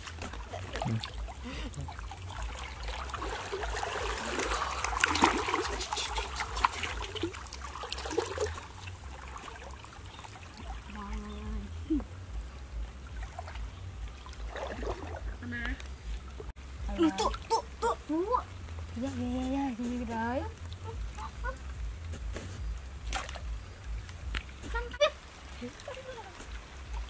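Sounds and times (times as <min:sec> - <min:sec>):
water splashing from wading: 0:00.0 - 0:27.0.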